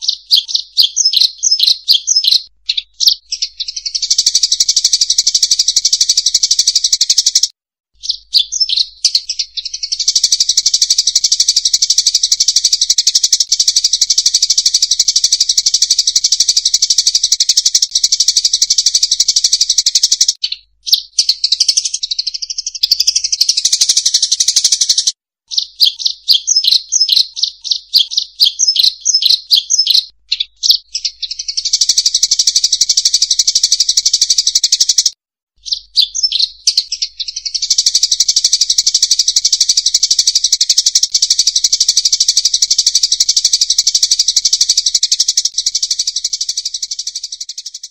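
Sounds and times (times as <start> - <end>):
flock of birds chirping: 0.0 - 44.0.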